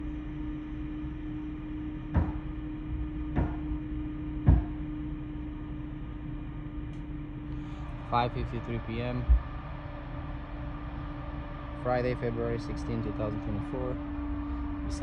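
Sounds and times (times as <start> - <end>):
drilling machinery rumbling: 0.0 - 15.0.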